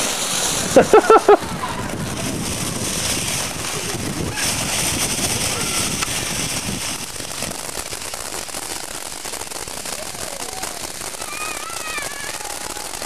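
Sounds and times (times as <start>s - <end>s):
firework fountain crackling hiss: 0.0s - 13.0s.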